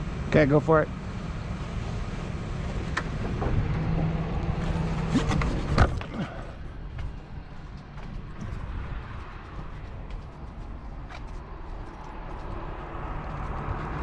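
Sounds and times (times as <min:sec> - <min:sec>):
truck engine running: 0:00.0 - 0:14.0.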